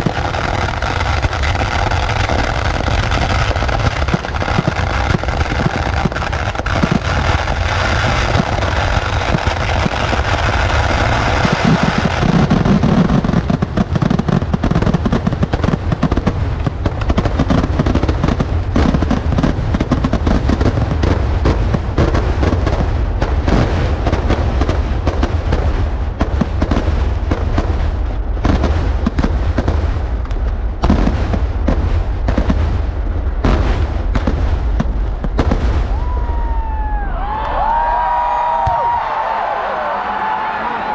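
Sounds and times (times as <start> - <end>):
fireworks exploding: 0.0 - 40.8.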